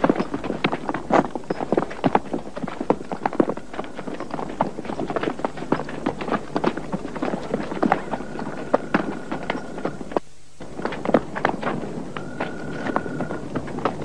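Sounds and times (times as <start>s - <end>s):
horse hooves clopping: 0.0s - 14.0s.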